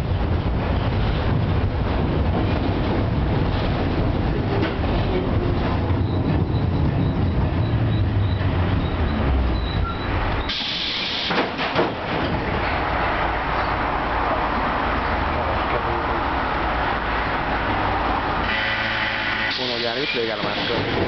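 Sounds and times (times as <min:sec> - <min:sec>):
tram wheels rumbling on rails: 0:00.0 - 0:21.0.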